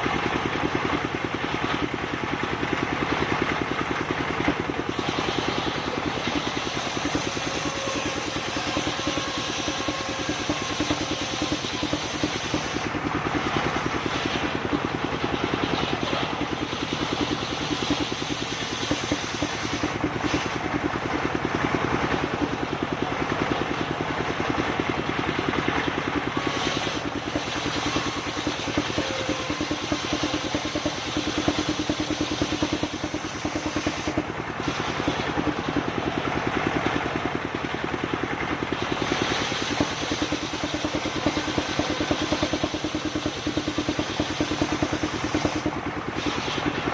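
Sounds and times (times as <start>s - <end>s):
sawmill engine running: 0.0s - 46.9s.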